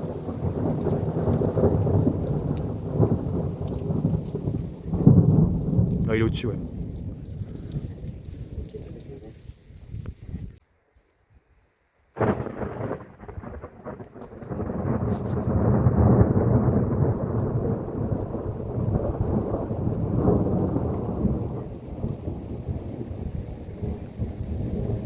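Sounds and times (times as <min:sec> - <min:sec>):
thunder clap: 0:00.0 - 0:10.2, 0:12.2 - 0:25.0
rolling thunder rumble: 0:00.0 - 0:10.3, 0:12.2 - 0:25.0.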